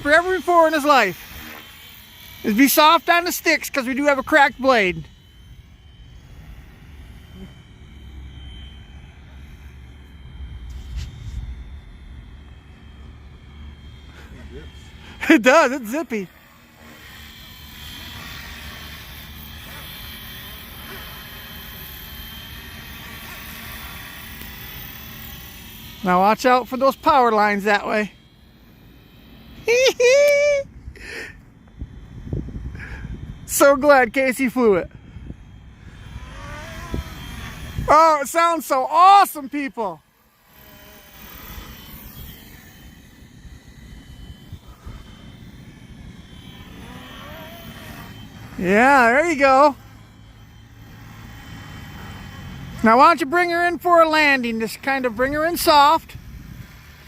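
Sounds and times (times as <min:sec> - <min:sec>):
rc helicopter rotor whine: 0:00.0 - 0:57.0
rising tone: 0:01.4 - 0:28.2, 0:35.0 - 0:57.0.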